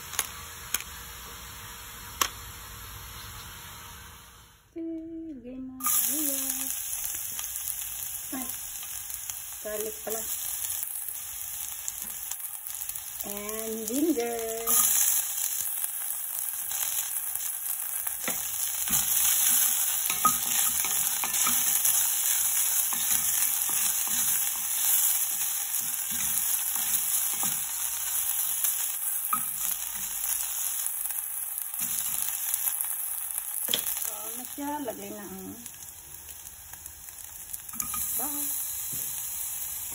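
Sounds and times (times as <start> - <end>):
garlic and ginger sizzling: 0.0 - 4.7, 5.7 - 39.9.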